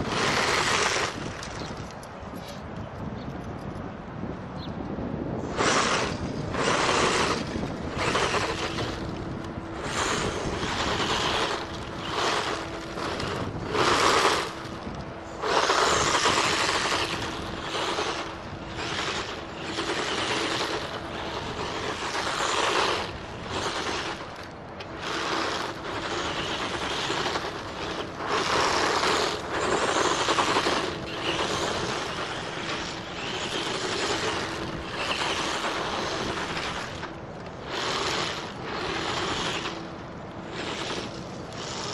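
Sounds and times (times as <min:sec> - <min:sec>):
rc car motor whining: 0:00.0 - 0:02.0, 0:05.4 - 0:41.9
tyres scrubbing on gravel: 0:00.0 - 0:02.6, 0:05.4 - 0:41.9.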